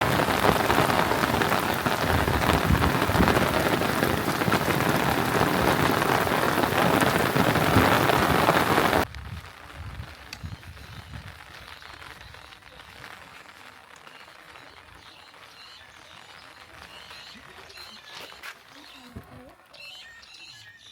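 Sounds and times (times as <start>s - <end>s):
heavy rain falling: 0.0s - 18.4s.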